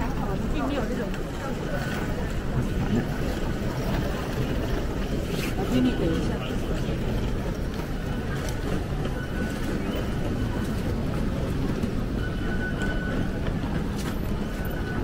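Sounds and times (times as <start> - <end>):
bustle of walking crowd: 0.0 - 15.0.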